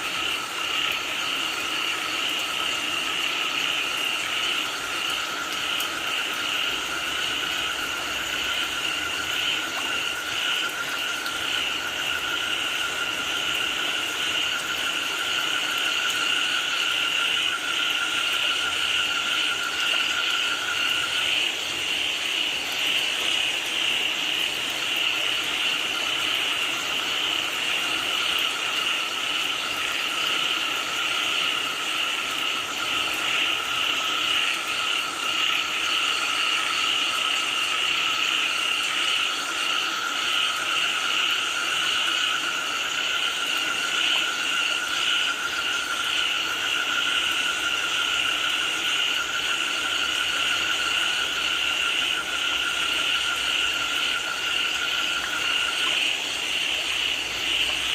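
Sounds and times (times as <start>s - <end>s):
frogs calling: 0.0s - 57.9s
rain hiss: 0.0s - 57.9s.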